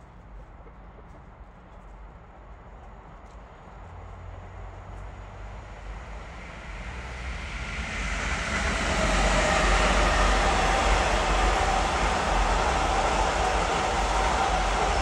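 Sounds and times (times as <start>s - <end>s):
wheels rumbling on rail: 0.0s - 15.0s
electric train whine: 2.3s - 15.0s.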